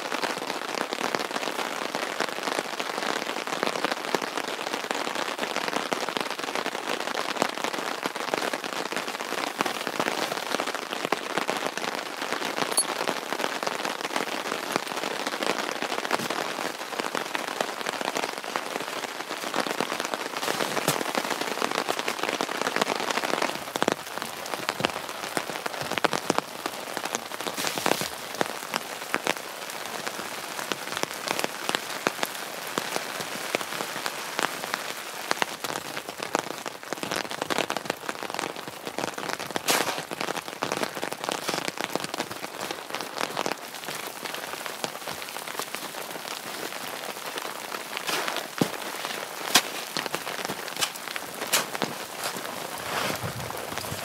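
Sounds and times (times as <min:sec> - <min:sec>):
heavy rain: 0:00.0 - 0:54.0
raindrops ticking: 0:07.4 - 0:18.2, 0:19.4 - 0:33.8, 0:35.4 - 0:54.0.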